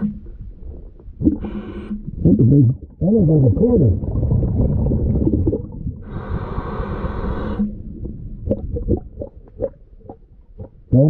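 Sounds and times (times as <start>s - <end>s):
low underwater rumble: 0.0s - 11.0s.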